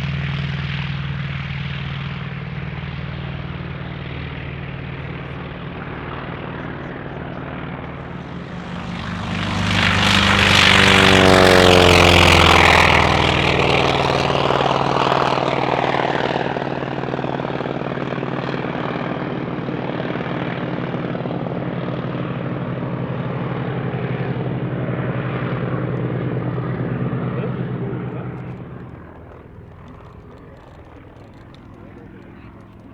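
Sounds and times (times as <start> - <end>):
propeller plane passing by: 0.0 - 32.9.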